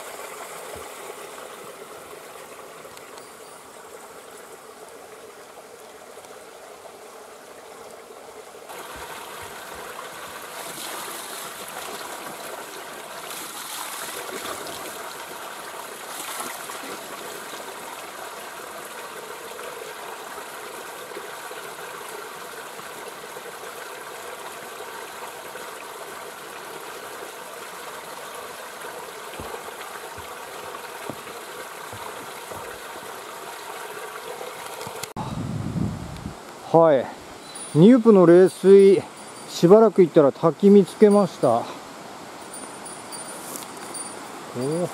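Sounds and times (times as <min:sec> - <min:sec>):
spring water running and splashing: 0:00.0 - 0:35.2, 0:36.8 - 0:44.9.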